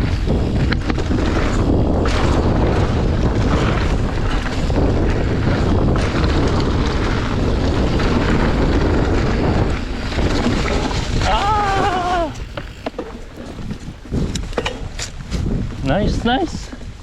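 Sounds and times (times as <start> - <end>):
bike trail rumble: 0.0 - 17.0
wind buffeting microphone: 0.0 - 17.0.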